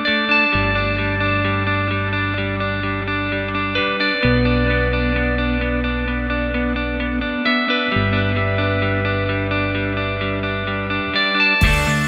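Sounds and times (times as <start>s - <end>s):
guitar playing: 0.0s - 12.0s.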